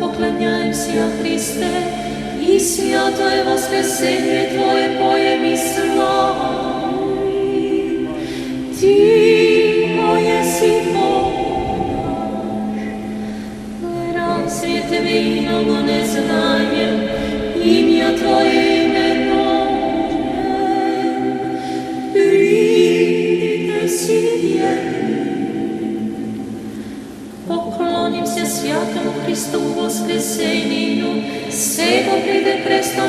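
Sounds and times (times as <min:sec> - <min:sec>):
choir singing a cappella: 0:00.0 - 0:33.0.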